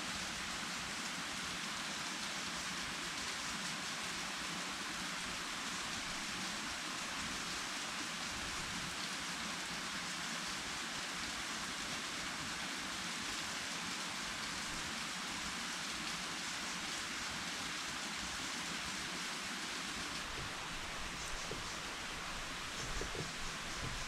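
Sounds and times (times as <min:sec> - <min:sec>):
steady water hiss: 0:00.0 - 0:24.0.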